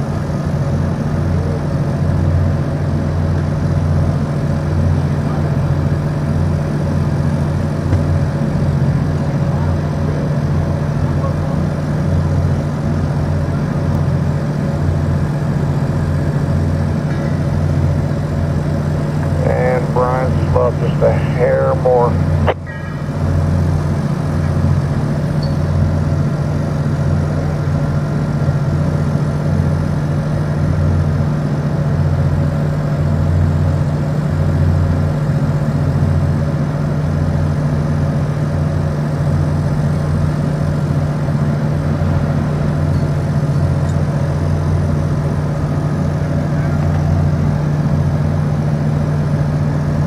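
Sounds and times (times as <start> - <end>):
heavy diesel engines humming: 0.0 - 50.0.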